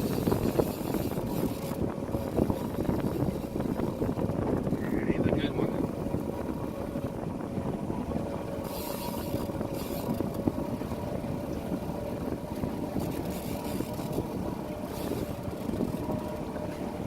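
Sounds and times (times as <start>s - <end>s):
boat motor rumbling: 0.0s - 17.0s.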